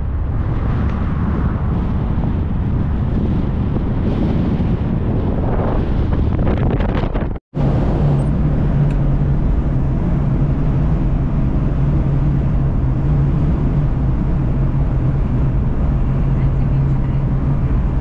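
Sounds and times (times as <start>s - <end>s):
road and wind noise: 0.0s - 18.0s
van engine drone: 0.0s - 18.0s.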